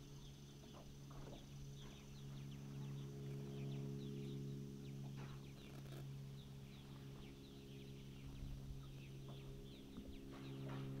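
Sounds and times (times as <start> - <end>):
steady low engine hum: 0.0 - 11.0.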